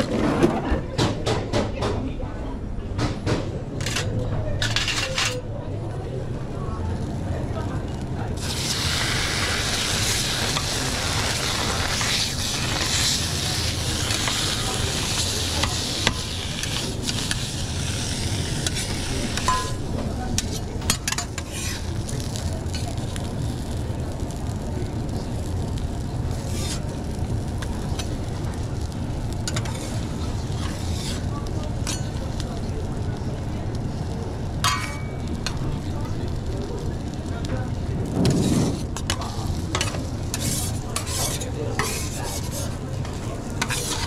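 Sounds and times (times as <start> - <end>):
food frying sizzle: 8.1 - 44.0.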